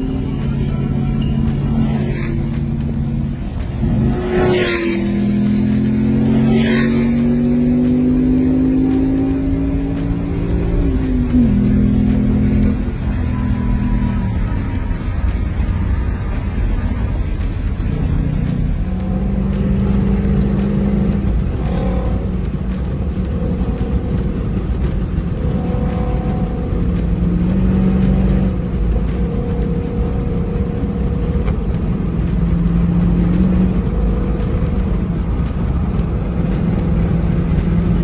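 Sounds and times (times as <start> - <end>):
car engine inside moving car: 0.0 - 38.0
faint ticking: 0.0 - 38.0.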